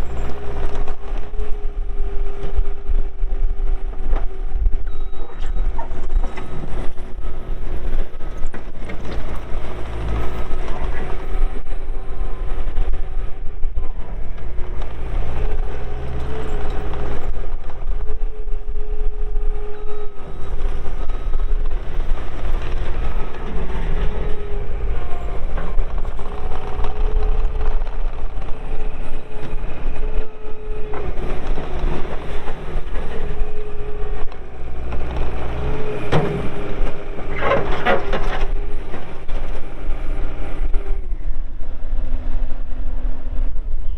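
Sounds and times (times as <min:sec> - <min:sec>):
track loader diesel engine whining: 0:00.0 - 0:43.9.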